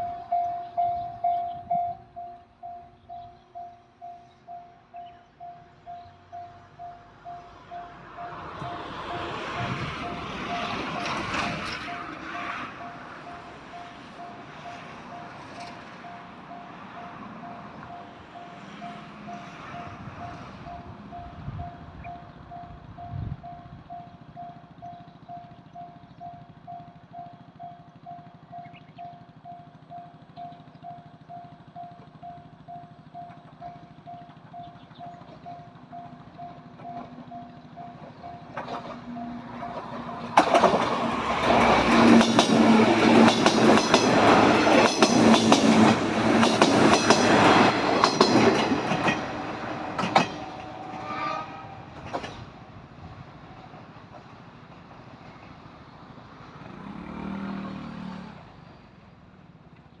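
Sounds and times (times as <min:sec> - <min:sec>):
electric train passing loudly: 0:00.0 - 0:59.9
wheels clacking over rail joints: 0:05.0 - 0:21.3, 0:23.9 - 0:58.6.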